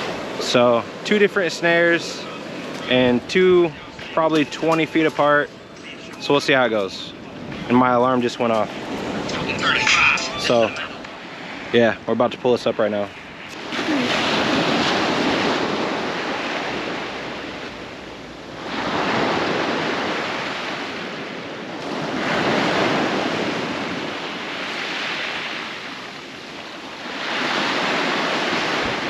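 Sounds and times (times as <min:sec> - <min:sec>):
ocean surf breaking: 0:00.0 - 0:29.0.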